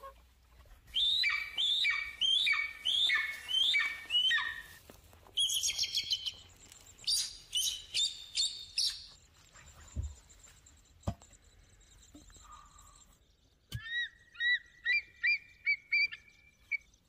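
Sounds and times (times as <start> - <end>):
birds calling: 0.7 - 17.0.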